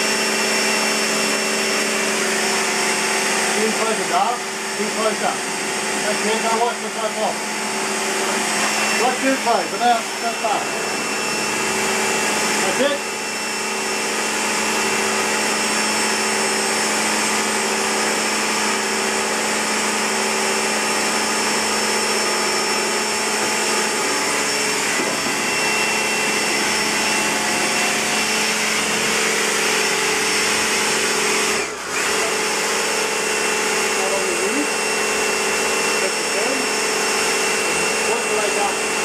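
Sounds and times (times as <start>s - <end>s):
pressure washer running: 0.0s - 39.0s.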